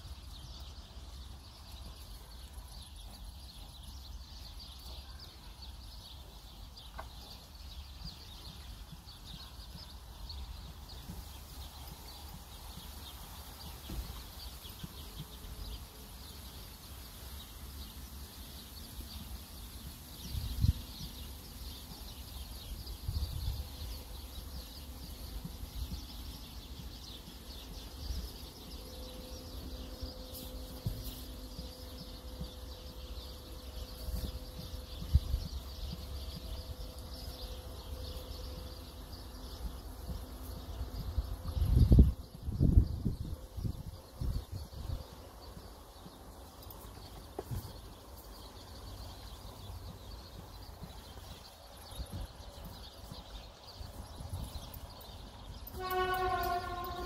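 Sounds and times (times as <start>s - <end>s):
birds and insects chirping: 0.0s - 57.0s.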